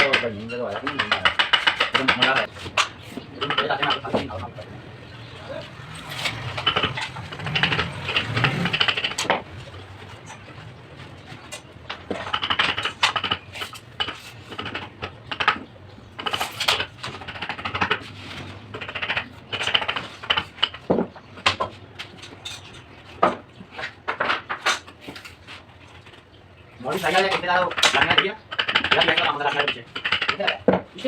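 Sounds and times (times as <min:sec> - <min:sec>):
hand tools tapping and clattering: 0:00.0 - 0:31.0.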